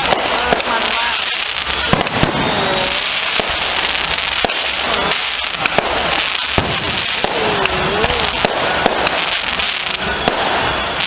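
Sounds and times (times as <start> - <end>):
crackling hiss of fireworks: 0.0 - 11.0
fireworks bangs: 0.0 - 11.0.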